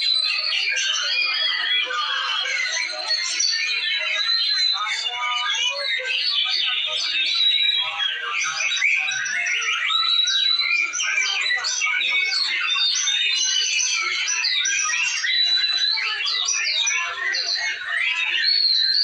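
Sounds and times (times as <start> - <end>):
bird singing whistled phrases: 0.1 - 19.0.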